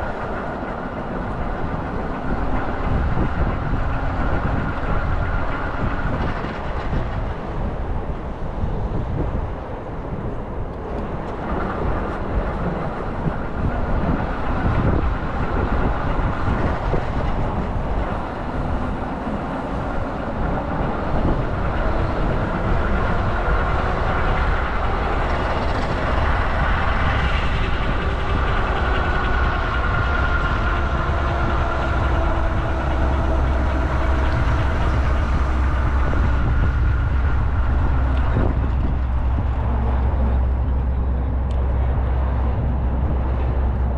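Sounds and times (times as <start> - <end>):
vehicle road noise rumble: 0.0 - 43.9.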